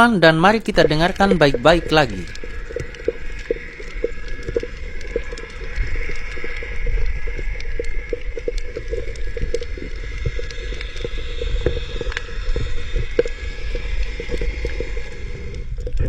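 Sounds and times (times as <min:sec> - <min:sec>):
low underwater rumble: 0:00.0 - 0:16.0
irregular clicks and crackles: 0:00.7 - 0:16.0.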